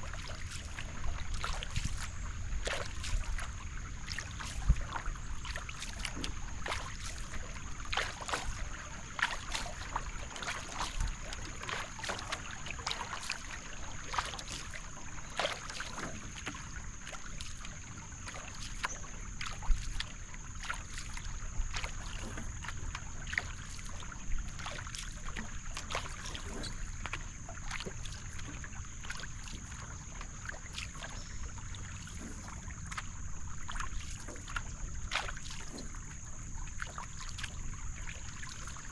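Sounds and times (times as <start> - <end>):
paddle strokes in water: 0.0 - 38.9
splashes and drips: 0.0 - 38.9
water washing past hull: 0.0 - 38.9.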